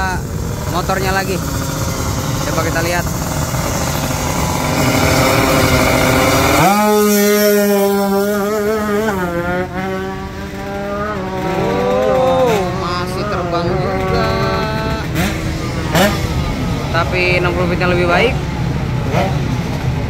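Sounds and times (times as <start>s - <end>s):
motorcycle engine at full throttle: 0.0s - 20.0s.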